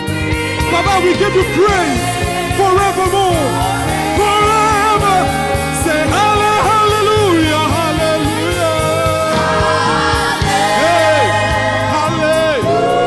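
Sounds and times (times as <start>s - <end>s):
band playing: 0.0s - 13.0s
backing singers: 0.1s - 13.0s
man singing lead: 0.5s - 13.0s.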